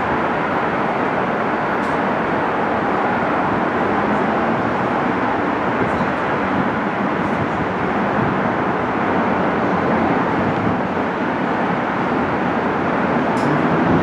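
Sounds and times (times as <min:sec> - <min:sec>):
elevated subway rumble: 0:00.0 - 0:14.0
street traffic: 0:00.0 - 0:14.0.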